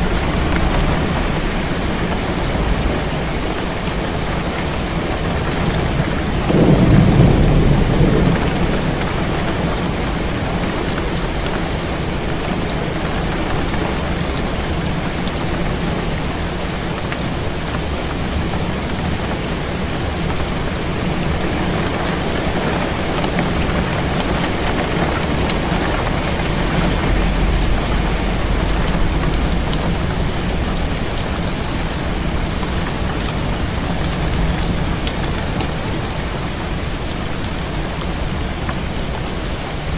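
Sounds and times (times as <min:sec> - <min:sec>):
thunder rumbling: 0:00.0 - 0:16.7, 0:20.0 - 0:37.0
heavy rain falling: 0:00.0 - 0:39.9.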